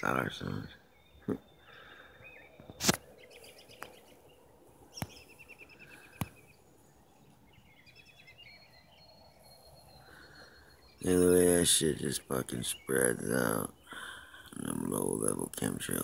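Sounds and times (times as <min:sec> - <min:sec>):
birds chirping in trilled phrases: 0:00.0 - 0:16.0.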